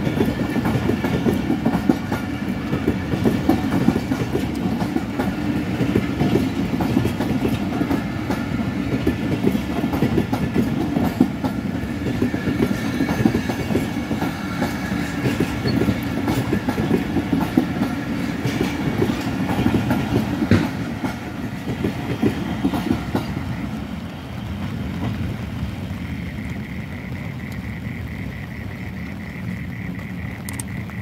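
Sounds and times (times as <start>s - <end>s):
train wheels clickety-clack: 0.0s - 27.8s
low train rumble: 0.0s - 31.0s.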